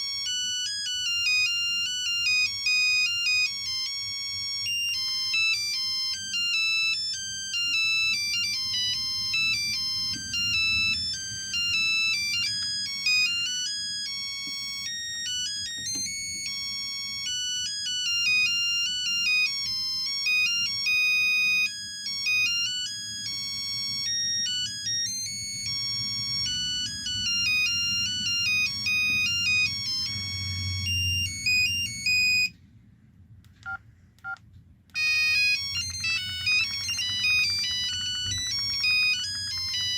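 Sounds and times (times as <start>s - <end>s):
phone ringtone beeping melody: 0.0s - 32.5s, 35.0s - 39.9s.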